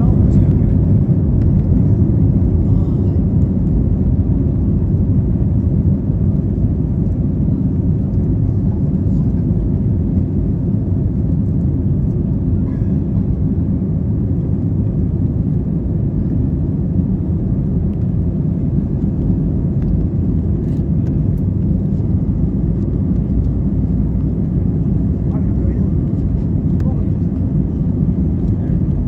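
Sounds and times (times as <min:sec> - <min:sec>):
jet engines rumbling in cabin: 0:00.0 - 0:29.0.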